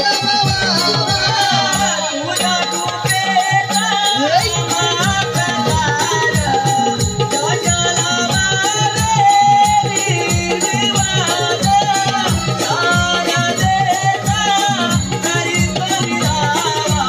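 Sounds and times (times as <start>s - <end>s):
jingling percussion: 0.0s - 17.0s.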